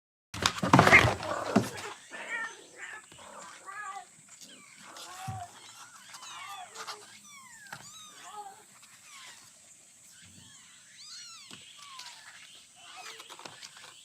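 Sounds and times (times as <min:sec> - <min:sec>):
cats mewing: 0:00.7 - 0:13.9.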